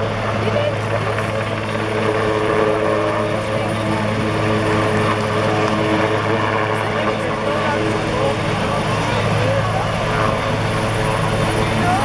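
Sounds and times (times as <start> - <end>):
helicopter hovering: 0.0 - 12.0.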